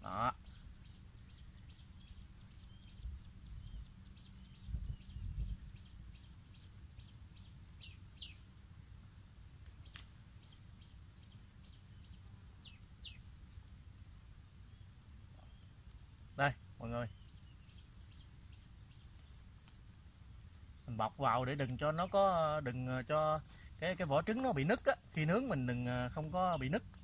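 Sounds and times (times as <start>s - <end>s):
bird chirping: 0.0s - 8.9s, 9.8s - 13.3s, 14.6s - 27.0s.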